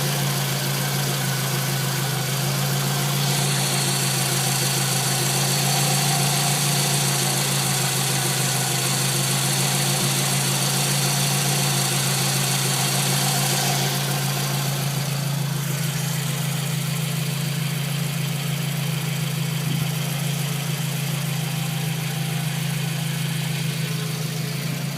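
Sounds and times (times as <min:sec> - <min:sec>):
car engine idling: 0:00.0 - 0:24.9.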